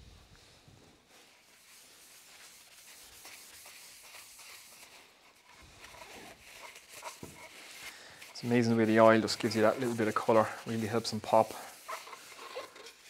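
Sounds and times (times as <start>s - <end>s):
gloved hand rubbing oil on wood: 1.1s - 13.0s.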